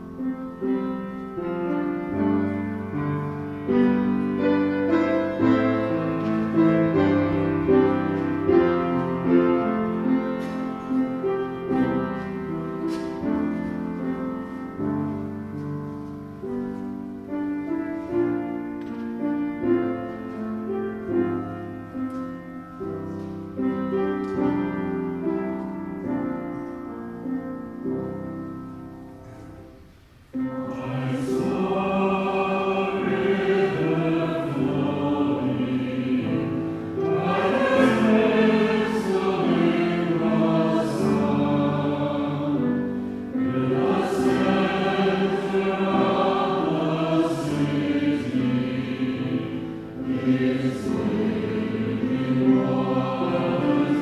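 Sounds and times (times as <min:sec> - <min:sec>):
congregation singing a hymn: 0:00.0 - 0:54.0
keyboard accompaniment: 0:00.0 - 0:54.0
piano playing hymn tune: 0:00.0 - 0:54.0.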